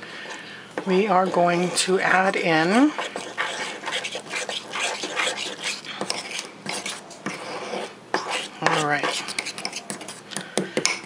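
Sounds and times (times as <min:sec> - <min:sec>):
spoon scraping dough in a dish: 0:00.8 - 0:11.0.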